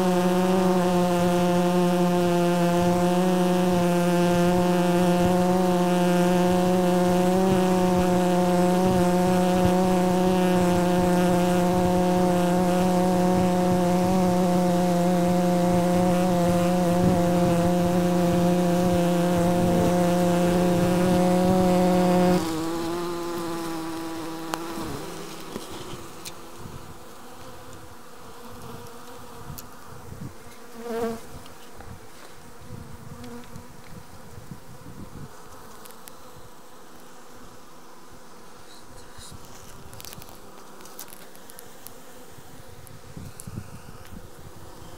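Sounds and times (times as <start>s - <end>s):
bees buzzing in a hive: 0.0s - 44.9s.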